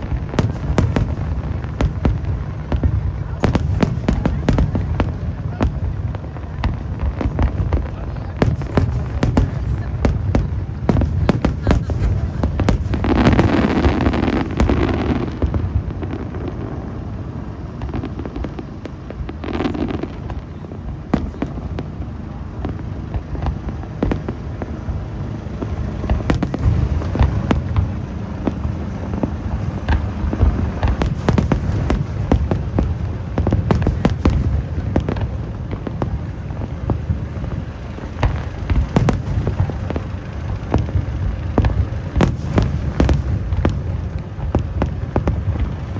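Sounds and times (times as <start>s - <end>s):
fireworks booming: 0.0s - 45.9s
fireworks cracking: 0.0s - 45.9s
fireworks crackle: 0.0s - 45.9s.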